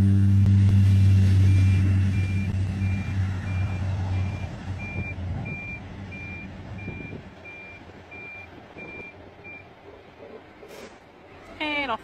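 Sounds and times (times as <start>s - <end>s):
plane engine and propeller drone: 0.0s - 12.0s.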